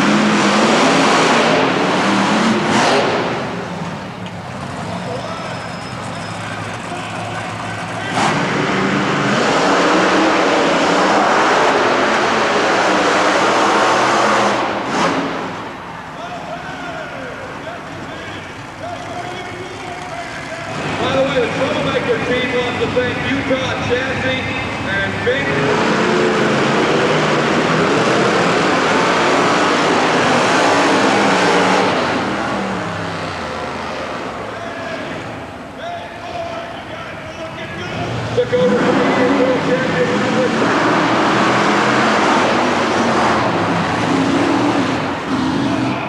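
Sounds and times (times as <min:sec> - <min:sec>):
monster truck engines running: 0:00.0 - 0:46.0.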